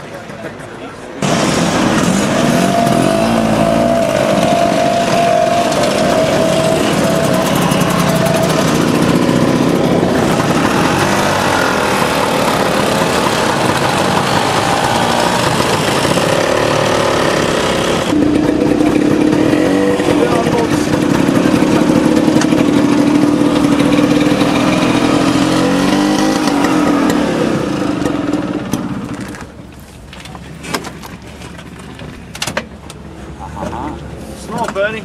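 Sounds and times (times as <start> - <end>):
scooter engines revving: 0.0 - 29.7.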